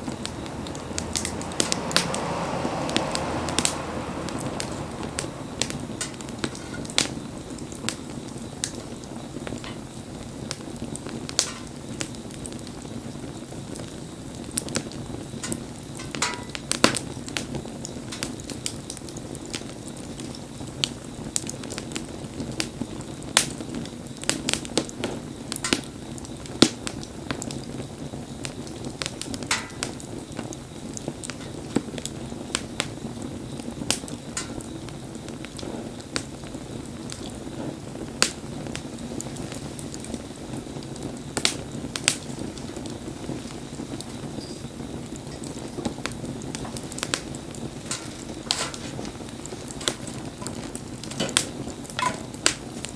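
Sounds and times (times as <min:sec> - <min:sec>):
fire crackles and pops: 0:00.0 - 0:52.9
wood fire rushing: 0:00.0 - 0:52.9.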